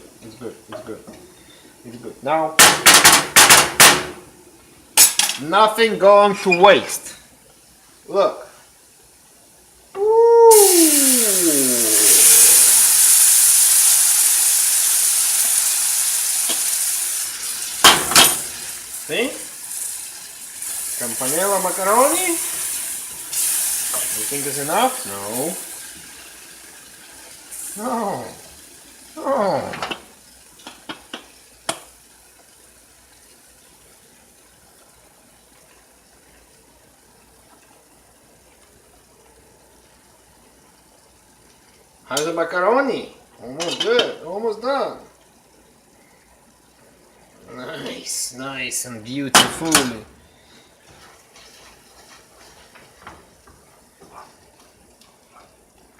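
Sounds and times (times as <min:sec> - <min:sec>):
water boiling in a pot: 0:00.0 - 0:55.9
liquid sizzling in hot frying pan: 0:08.7 - 0:48.3, 0:50.7 - 0:55.9.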